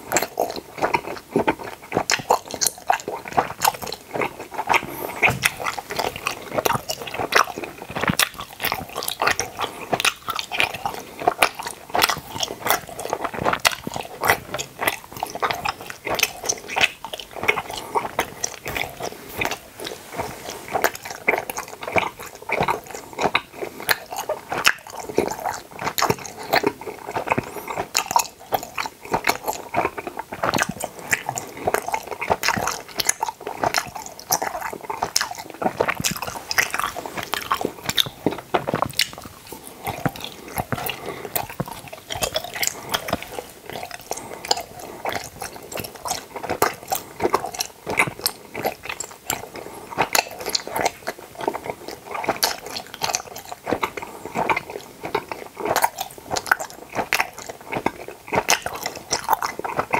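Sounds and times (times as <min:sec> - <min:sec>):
person chewing with mouth clicks: 0:00.0 - 0:59.9.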